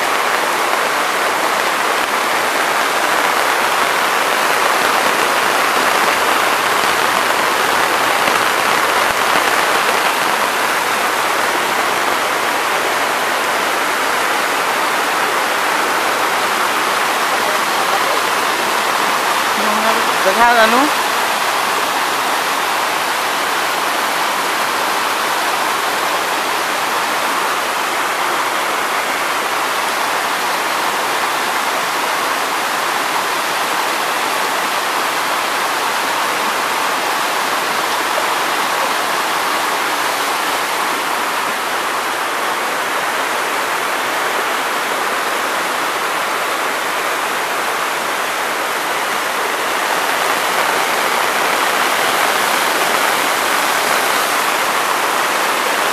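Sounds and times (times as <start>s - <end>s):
floodwater rushing over cascade: 0.0s - 55.9s.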